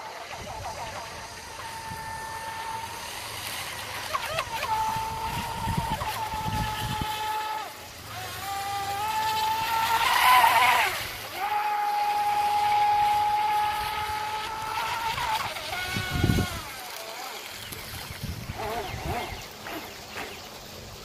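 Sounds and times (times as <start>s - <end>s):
electric boat motor whine: 0.0s - 21.0s.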